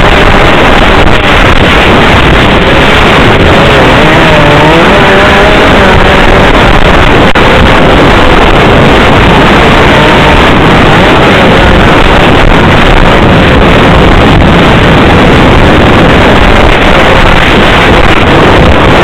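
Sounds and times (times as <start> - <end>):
snowmobile engine running: 0.0 - 19.0.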